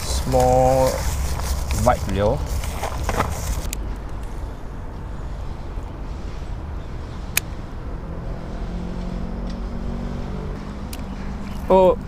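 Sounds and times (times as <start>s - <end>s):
low engine hum: 0.0s - 12.0s
road traffic rumble: 0.0s - 12.0s.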